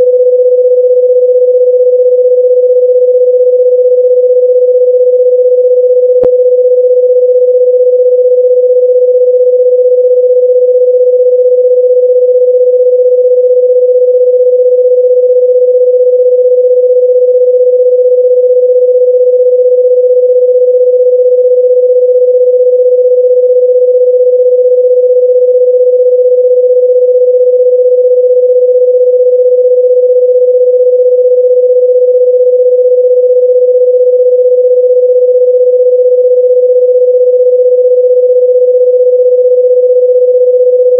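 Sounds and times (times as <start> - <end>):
electronic sine tone: 0.0 - 40.9.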